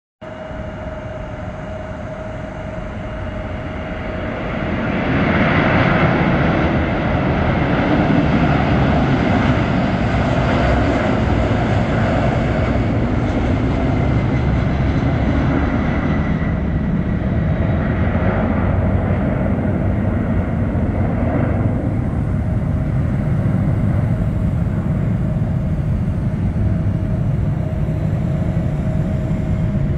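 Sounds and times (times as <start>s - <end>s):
jet engines at takeoff: 0.2s - 29.9s.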